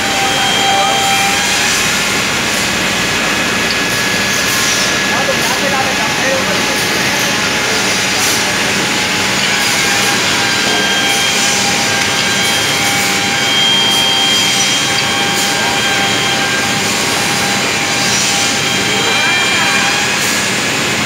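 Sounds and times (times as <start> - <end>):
drilling machine whirring: 0.0 - 21.0.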